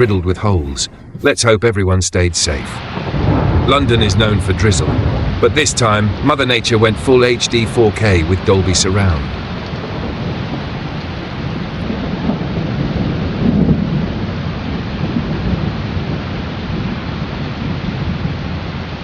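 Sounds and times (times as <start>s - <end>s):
hail and rain pelting down: 2.5s - 19.0s
low rumble of thunder: 2.5s - 19.0s.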